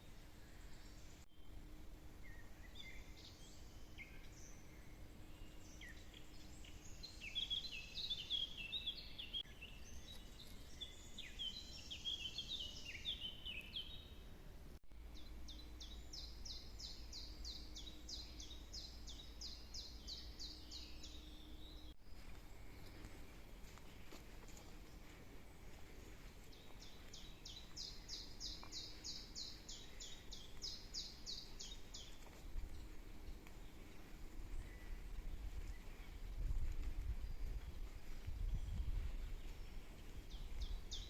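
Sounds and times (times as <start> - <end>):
faint low rumble: 0.0 - 41.0
songbirds singing: 0.0 - 41.0.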